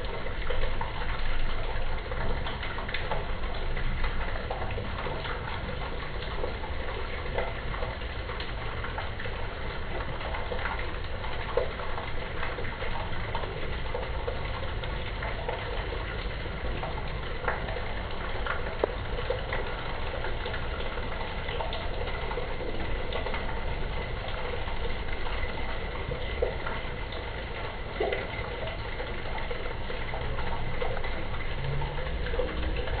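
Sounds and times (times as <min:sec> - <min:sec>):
rainwater gushing into drain: 0:00.0 - 0:33.0
water drips and splashes: 0:00.0 - 0:33.0.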